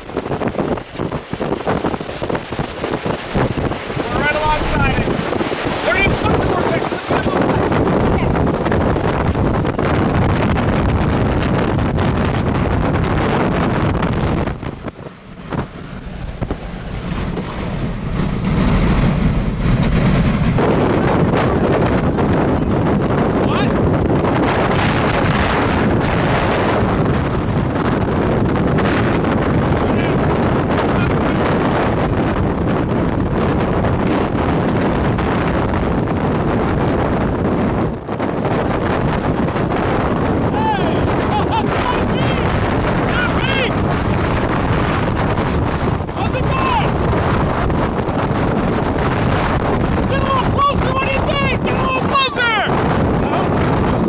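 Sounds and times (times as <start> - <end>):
strong wind buffeting the microphone: 0.0 - 54.0.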